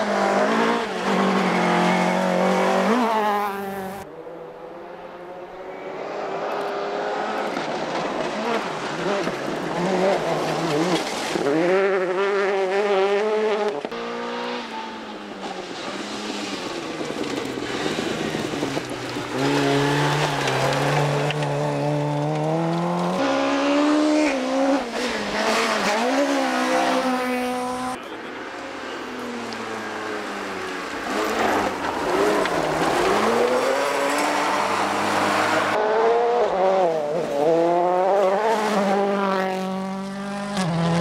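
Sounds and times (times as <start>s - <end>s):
rally car engines revving: 0.0s - 41.0s.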